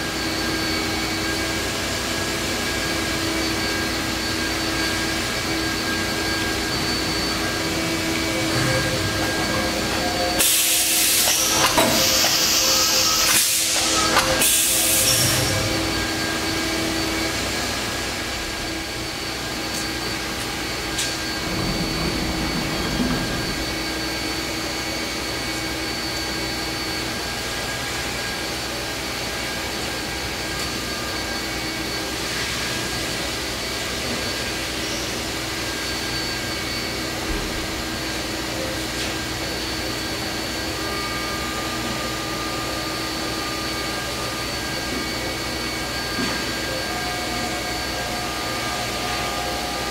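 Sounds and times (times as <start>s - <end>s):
machining center whirring hum: 0.0s - 49.9s.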